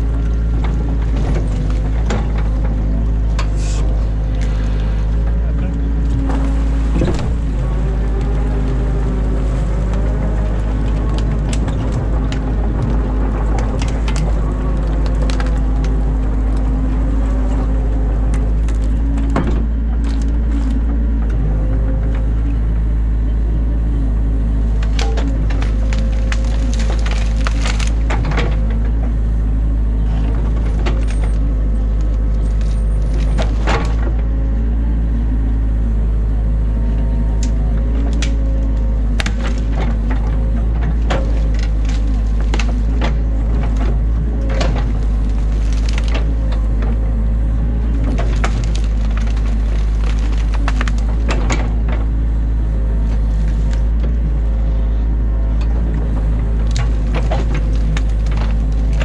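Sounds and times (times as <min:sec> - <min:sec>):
branches snapping: 0:00.0 - 0:22.3, 0:24.6 - 0:29.3, 0:30.0 - 0:34.2, 0:37.3 - 0:54.3, 0:55.9 - 0:59.0
excavator diesel engine running: 0:00.0 - 0:59.0.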